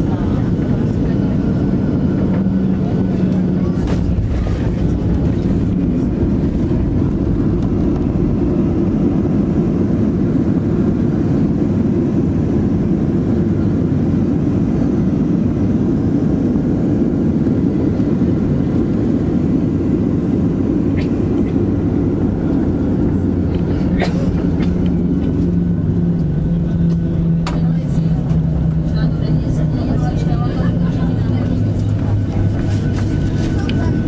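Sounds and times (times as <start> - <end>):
airliner cabin engine noise: 0.0 - 34.0.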